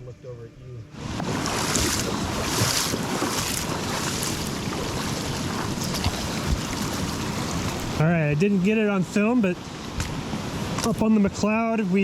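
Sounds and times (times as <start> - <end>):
fast-flowing river water: 0.9 - 12.0.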